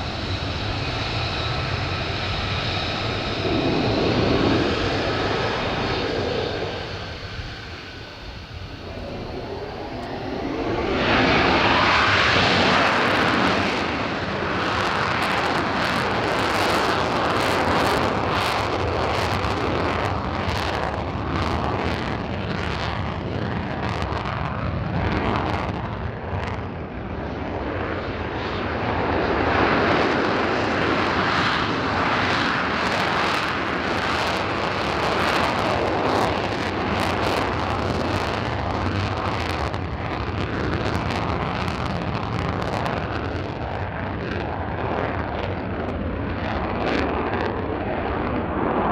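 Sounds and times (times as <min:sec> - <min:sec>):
jet engine roar with crackle: 0:00.0 - 0:48.9.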